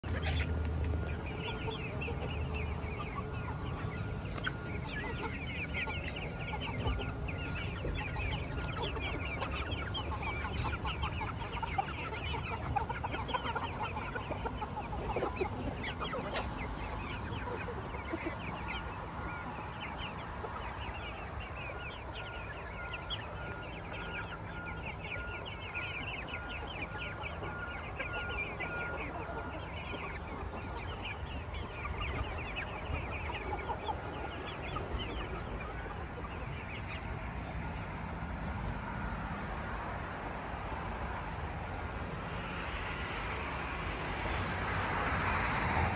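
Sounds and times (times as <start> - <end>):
chickens clucking and chirping: 0.0 - 45.9.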